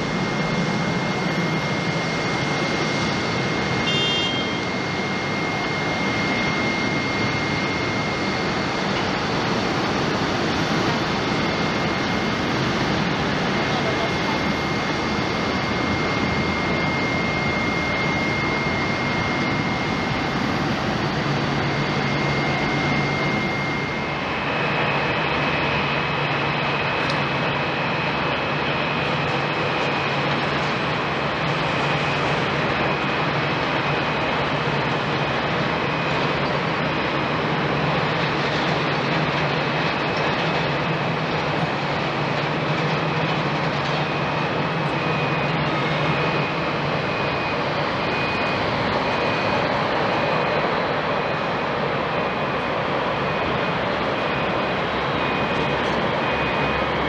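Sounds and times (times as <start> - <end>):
jet engine rumble and whine: 0.0 - 57.0.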